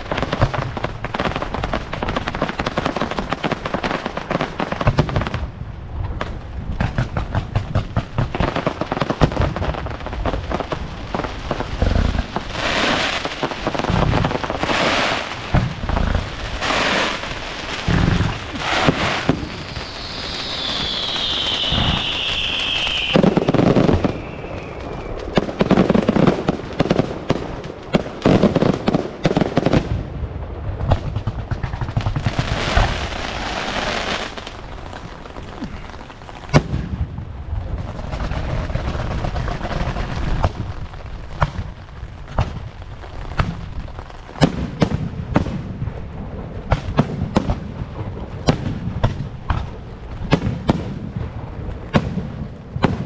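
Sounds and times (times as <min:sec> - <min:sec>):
fireworks bangs and booms: 0:00.0 - 0:53.0.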